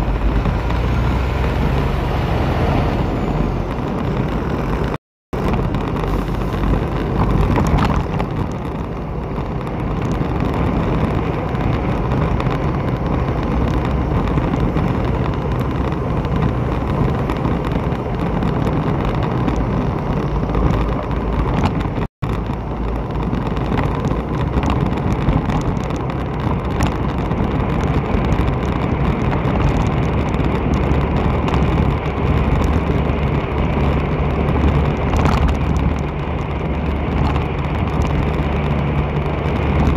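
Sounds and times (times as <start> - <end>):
road rumble from moving vehicle: 0.0 - 39.9
wind rumbling on microphone: 0.0 - 39.9.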